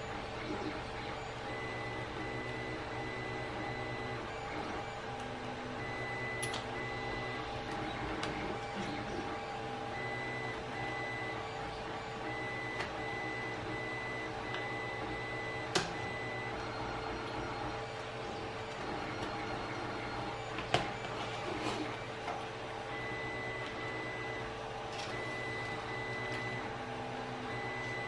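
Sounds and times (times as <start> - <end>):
machine hum with high whine: 0.0 - 28.0.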